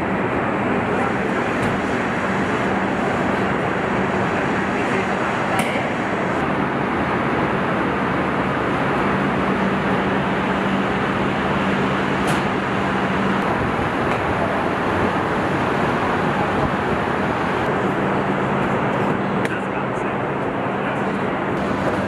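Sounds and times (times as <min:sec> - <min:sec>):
dense machinery noise: 0:00.0 - 0:22.0.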